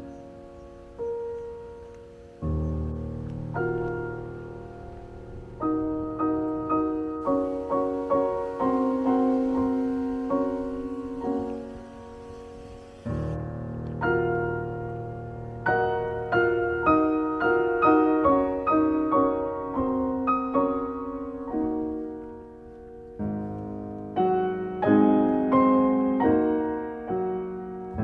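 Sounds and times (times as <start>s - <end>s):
soft piano music: 0.0s - 28.0s.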